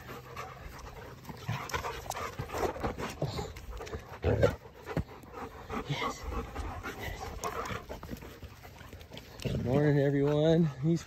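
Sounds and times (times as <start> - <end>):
dogs panting and scuffling: 0.0 - 11.0.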